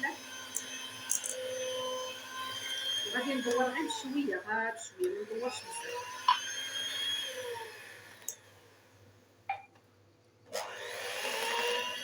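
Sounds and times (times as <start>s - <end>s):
electric mixer whining: 0.0s - 8.8s, 10.5s - 12.0s.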